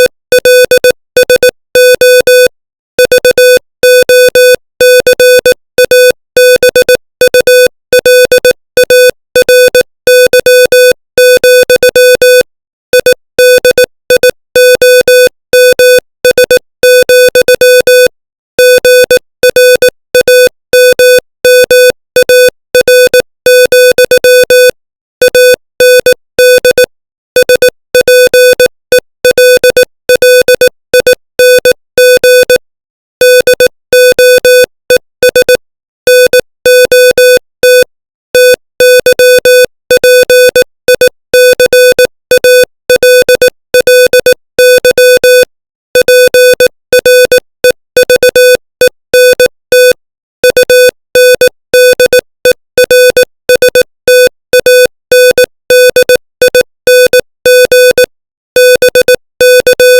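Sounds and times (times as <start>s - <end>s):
morse code tone: 0.0s - 32.6s, 33.2s - 59.9s.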